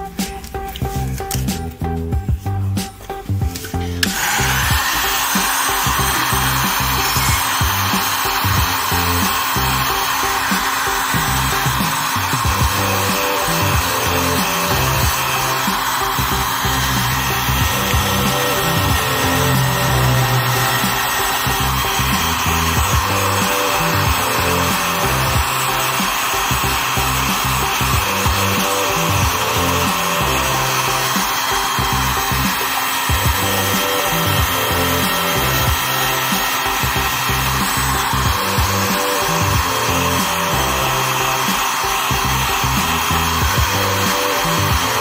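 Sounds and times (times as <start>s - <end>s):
heat gun blowing hot air: 2.8s - 45.0s.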